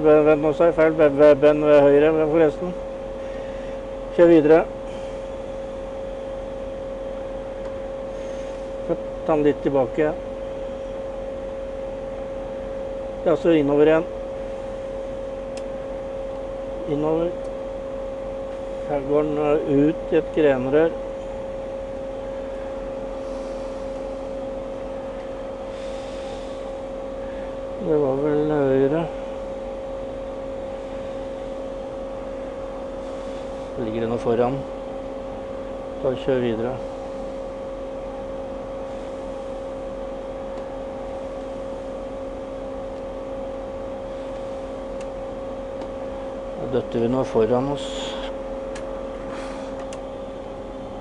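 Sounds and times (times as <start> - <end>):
mechanical hum with whine: 0.0 - 51.0.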